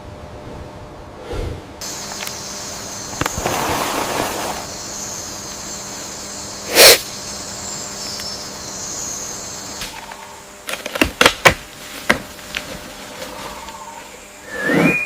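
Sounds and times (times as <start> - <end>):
steady high hiss: 1.6 - 15.0
rustle: 1.8 - 15.0.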